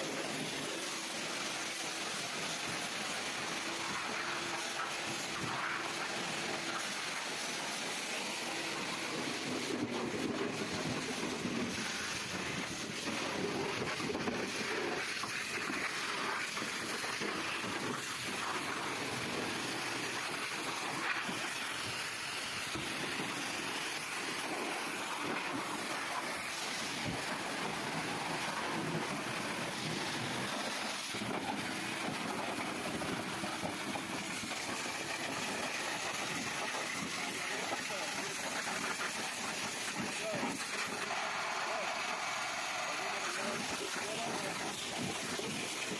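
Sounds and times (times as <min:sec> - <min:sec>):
car wash sprayer hissing: 0:00.0 - 0:45.9.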